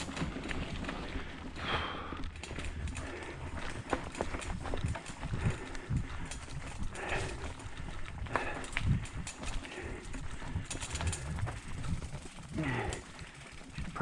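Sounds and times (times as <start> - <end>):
bike knocks and rattles on rocks: 0.0 - 14.0.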